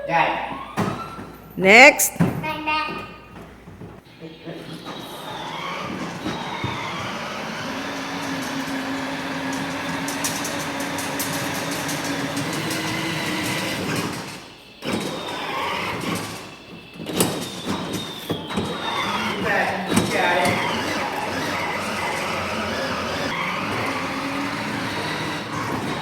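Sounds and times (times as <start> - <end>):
plastic wheels rolling on floor: 0.4 - 1.6, 3.3 - 26.0
electric toy motor whirring: 4.8 - 26.0.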